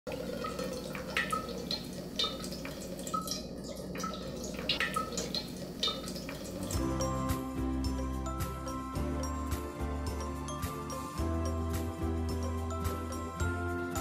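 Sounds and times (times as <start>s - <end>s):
water dripping: 0.1s - 13.3s.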